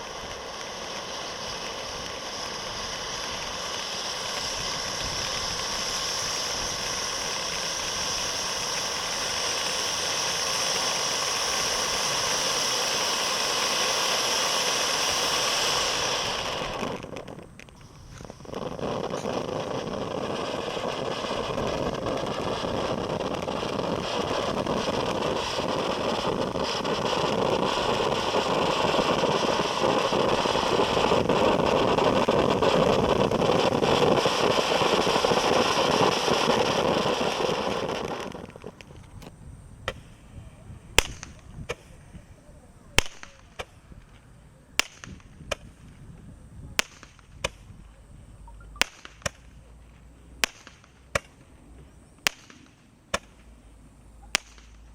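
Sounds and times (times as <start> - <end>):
firework fountain hissing: 0.0 - 54.9
firework sharp cracks: 0.0 - 54.9.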